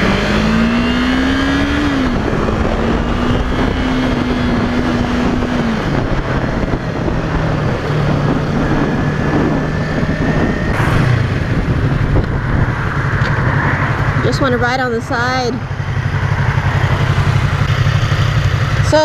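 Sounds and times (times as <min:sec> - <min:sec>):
heavy wind rush: 0:00.0 - 0:19.0
motorcycle engine running: 0:00.0 - 0:19.0.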